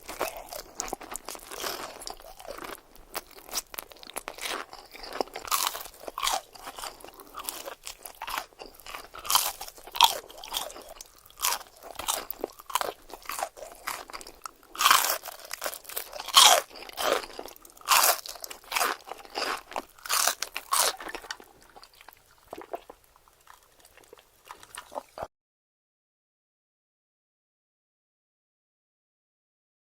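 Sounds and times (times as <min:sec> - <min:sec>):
crunching and chewing fried food: 0:00.0 - 0:25.3.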